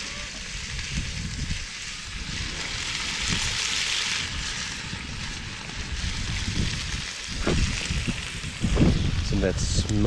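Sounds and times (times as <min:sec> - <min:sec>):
meat sizzling in a skillet: 0:00.0 - 0:09.4
campfire crackling: 0:00.0 - 0:10.0.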